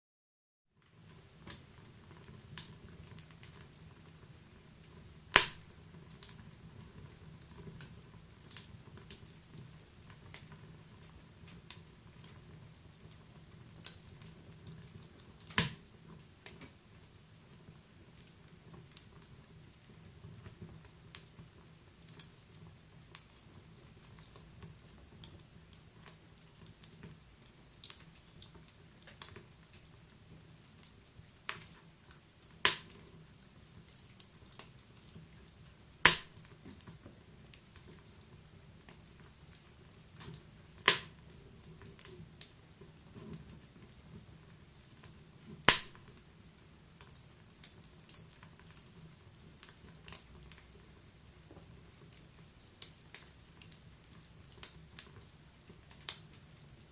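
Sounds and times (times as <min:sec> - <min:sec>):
wood fire crackling and popping: 0:00.8 - 0:56.9.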